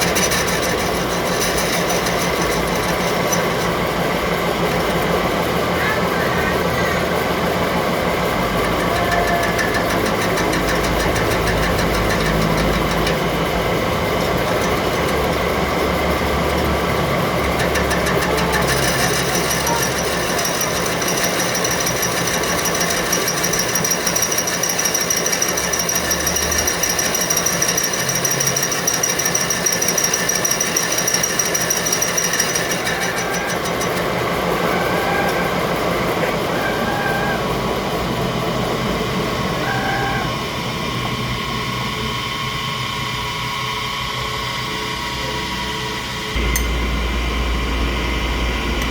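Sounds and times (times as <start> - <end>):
machinery rattling: 0.0 - 41.2
high-pitched whine: 0.0 - 48.9.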